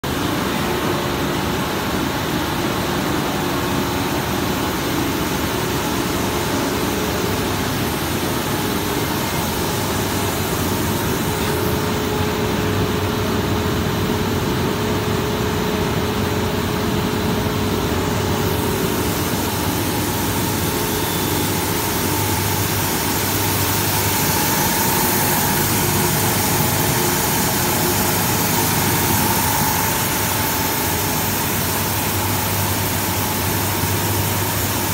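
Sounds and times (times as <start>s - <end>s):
industrial machinery drone: 0.0s - 34.9s.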